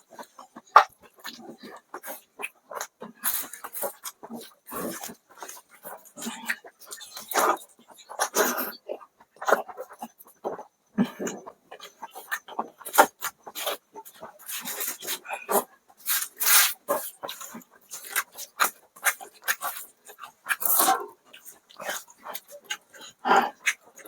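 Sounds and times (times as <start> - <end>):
wet chewing and mouth noises: 0.1 - 24.0.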